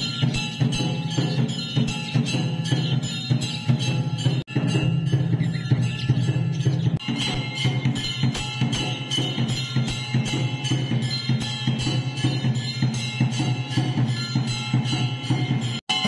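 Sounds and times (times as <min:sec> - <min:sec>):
music with percussive beat and bells: 0:00.0 - 0:16.0.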